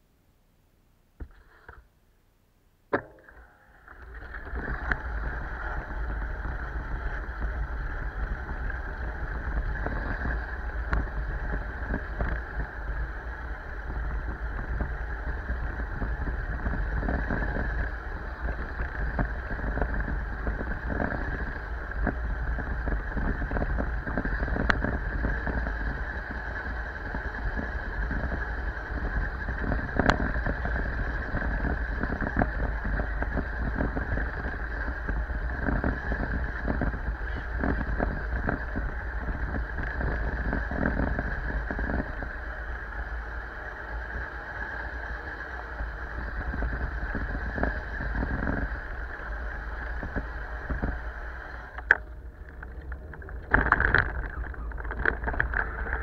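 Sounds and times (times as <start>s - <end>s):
bicycle tyres on asphalt: 1.2s - 2.1s, 2.9s - 56.0s
wind on microphone: 3.3s - 56.0s.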